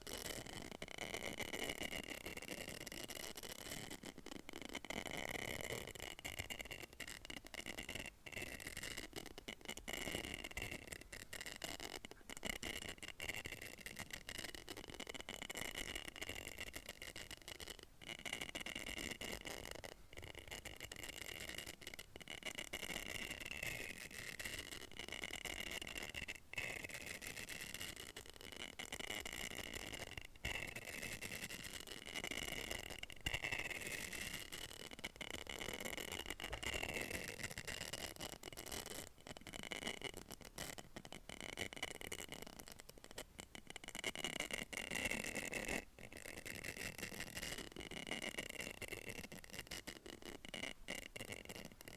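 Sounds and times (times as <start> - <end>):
scratching and clicking on capsule: 0.0 - 51.9.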